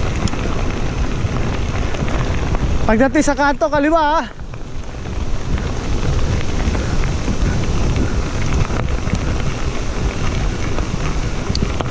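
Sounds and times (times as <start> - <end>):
bike tyres rolling on gravel: 0.0 - 11.9
gravel ticks: 0.0 - 11.9
wind on microphone: 0.0 - 11.9.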